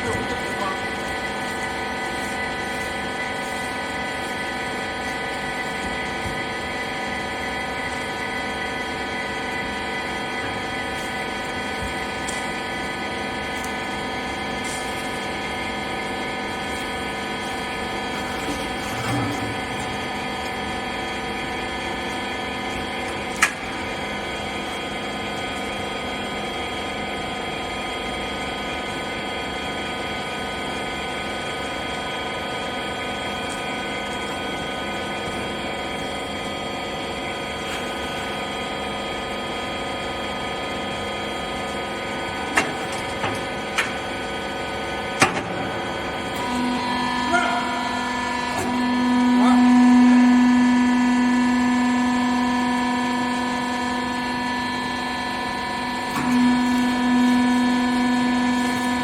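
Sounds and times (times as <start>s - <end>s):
baler machine hum: 0.0s - 24.5s, 32.5s - 59.0s.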